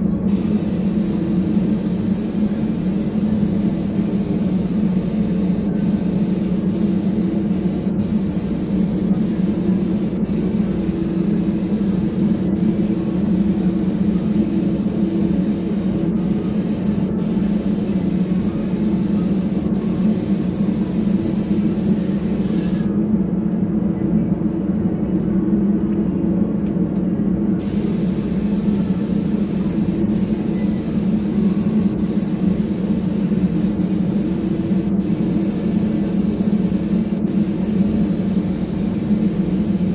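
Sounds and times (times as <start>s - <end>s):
low machine hum: 0.0s - 39.9s
spray gun hissing: 0.3s - 22.9s, 27.6s - 39.9s.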